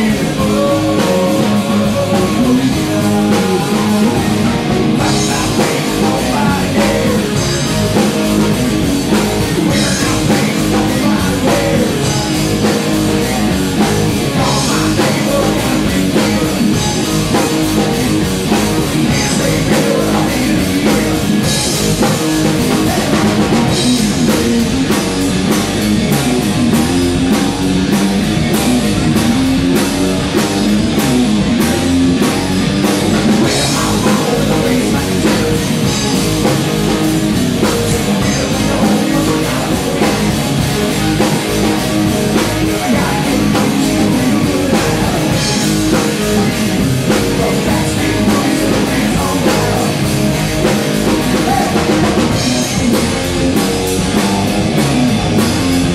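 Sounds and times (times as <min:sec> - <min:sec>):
rock band playing: 0:00.0 - 0:55.9.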